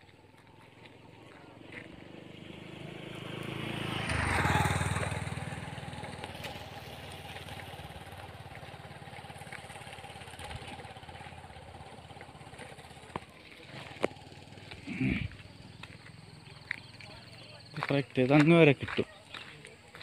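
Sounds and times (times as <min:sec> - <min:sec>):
quiet engine hum: 0:00.0 - 0:20.0
vehicle engine passing by: 0:00.2 - 0:18.7.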